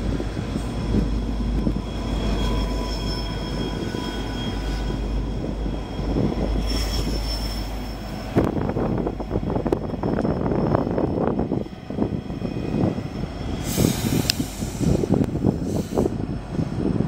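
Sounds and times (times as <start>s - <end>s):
high-pitched whine: 0.0s - 15.2s
freight train rumbling past: 0.0s - 17.0s.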